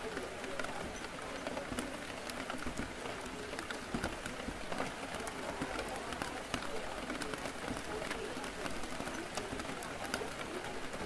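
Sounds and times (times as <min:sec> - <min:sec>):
murmur of voices: 0:00.0 - 0:11.0
rain on a window: 0:00.0 - 0:11.0.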